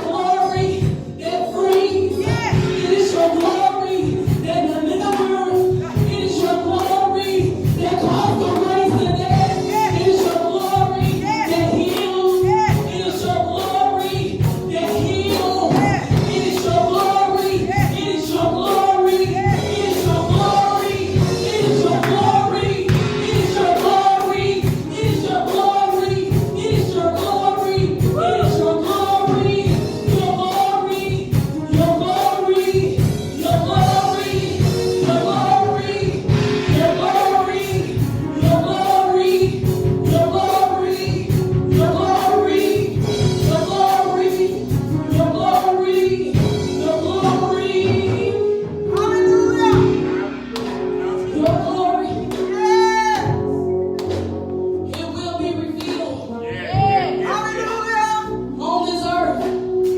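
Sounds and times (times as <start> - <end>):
gospel choir singing over a beat: 0.0 - 59.9.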